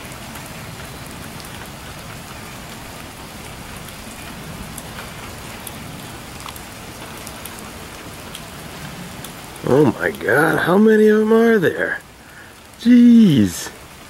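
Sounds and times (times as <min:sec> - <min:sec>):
sharp water drips: 0:00.0 - 0:14.0
steady light rain: 0:00.0 - 0:14.0.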